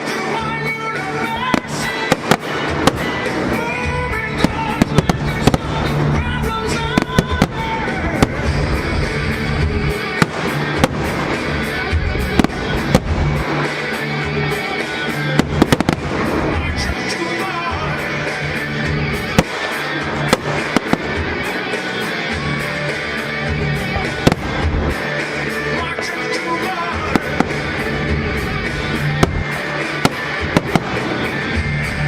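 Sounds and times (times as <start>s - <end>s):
fireworks bangs: 0.0s - 32.0s
music: 0.0s - 32.0s.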